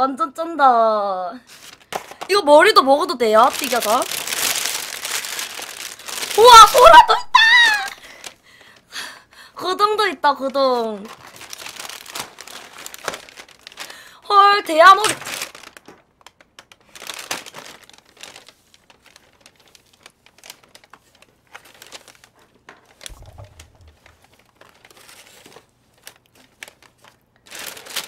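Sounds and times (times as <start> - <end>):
plastic bag and tray crinkling: 1.4 - 8.8, 10.3 - 28.0.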